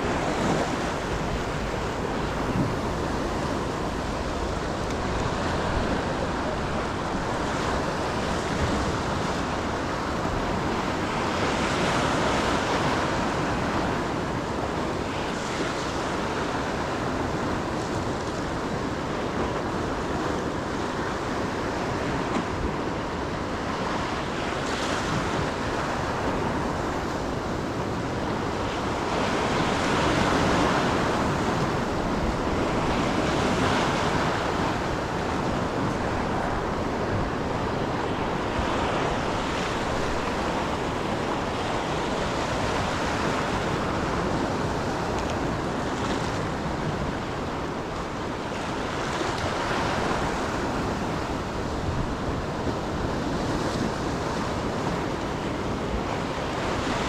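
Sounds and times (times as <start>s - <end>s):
ocean surf breaking on shore: 0.0s - 57.0s
wind on microphone: 0.0s - 57.0s.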